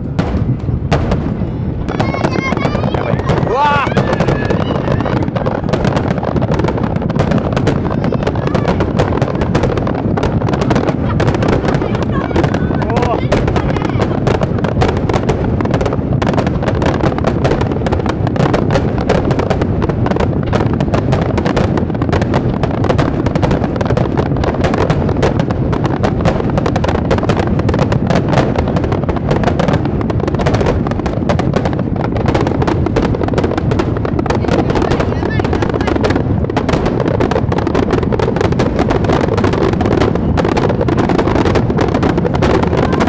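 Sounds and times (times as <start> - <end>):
fireworks bursts and crackle: 0.0 - 43.0.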